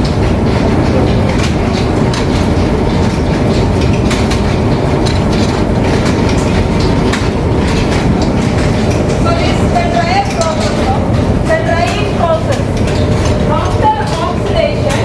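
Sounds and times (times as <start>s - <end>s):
clattering and sharp knocks: 0.0s - 15.0s
machinery rumbling: 0.0s - 15.0s.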